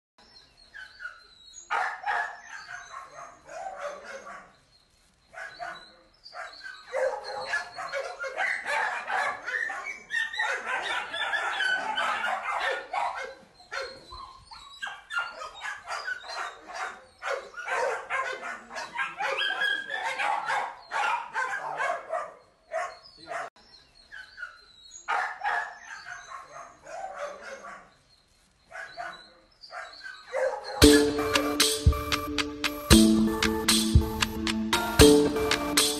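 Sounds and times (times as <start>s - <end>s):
dogs barking and yipping: 0.7s - 4.7s, 5.3s - 28.1s, 28.7s - 32.7s.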